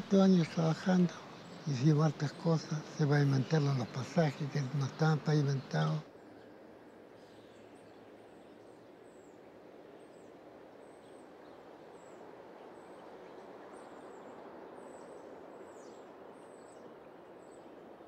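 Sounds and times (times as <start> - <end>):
background ambience: 0.0 - 18.0
small birds chirping: 0.0 - 18.0.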